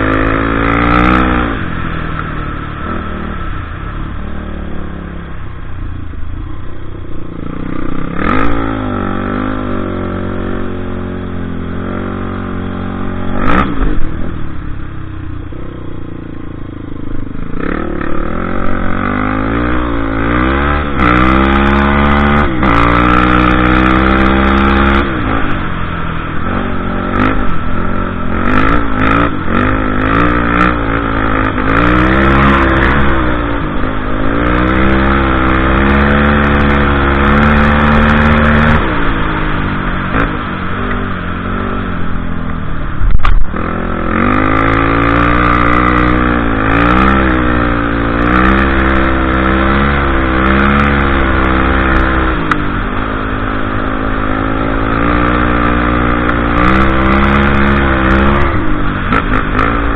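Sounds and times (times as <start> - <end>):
quad engine revving: 0.0 - 1.8, 7.4 - 14.1, 17.5 - 42.5, 43.1 - 59.9.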